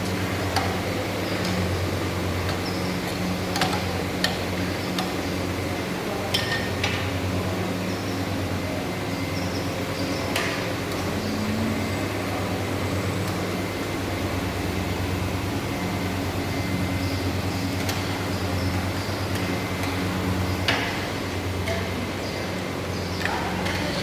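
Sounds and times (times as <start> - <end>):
machine motor humming: 0.0 - 24.0.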